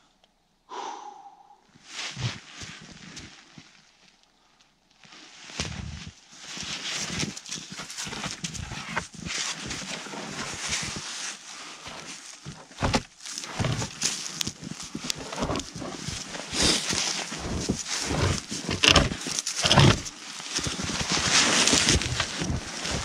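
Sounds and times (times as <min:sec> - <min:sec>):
footsteps in snow: 0:01.8 - 0:04.1, 0:05.0 - 0:23.0
pole dragged through snow: 0:01.9 - 0:03.5, 0:05.3 - 0:23.0.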